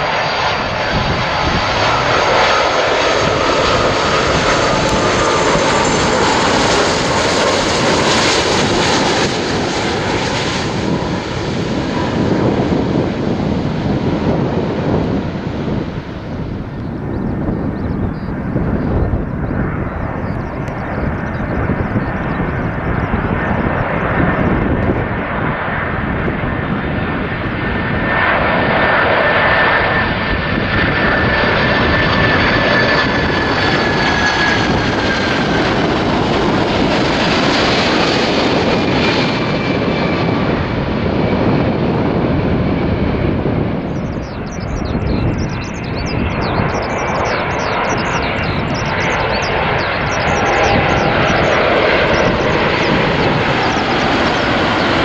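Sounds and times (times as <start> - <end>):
high engine whine: 0.0 - 55.0
jet airliner engine rumble: 0.0 - 55.0.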